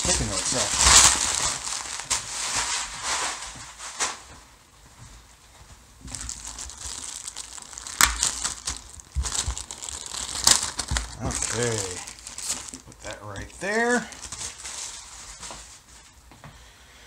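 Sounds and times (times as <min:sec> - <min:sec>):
bubble wrap snapping: 0:00.0 - 0:04.3, 0:06.0 - 0:15.9
bubble wrap crinkling: 0:00.0 - 0:04.5, 0:06.0 - 0:16.2.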